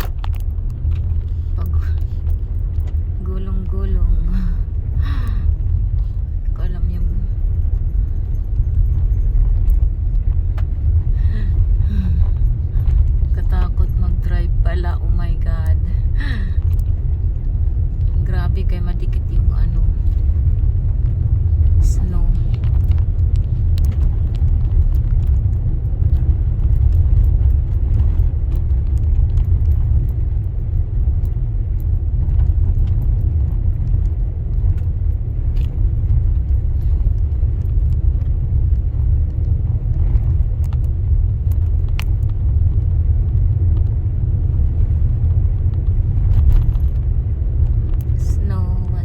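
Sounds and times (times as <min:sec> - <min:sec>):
road and engine rumble in car: 0:00.0 - 0:49.0.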